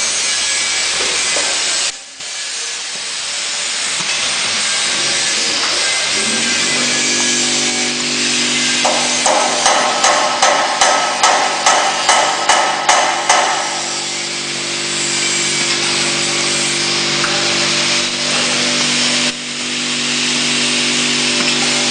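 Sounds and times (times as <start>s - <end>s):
factory machinery hum and hiss: 0.0s - 21.9s.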